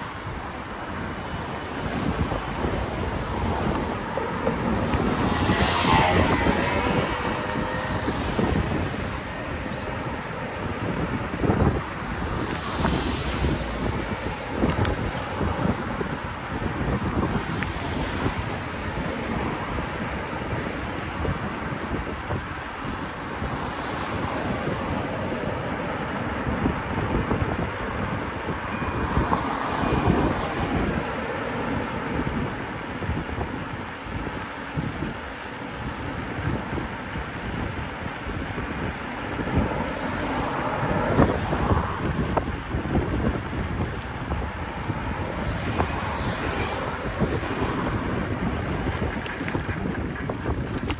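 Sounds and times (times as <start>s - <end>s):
city road traffic: 0.0s - 50.9s
vehicles passing: 0.0s - 50.9s
wind buffeting microphone: 0.0s - 50.9s.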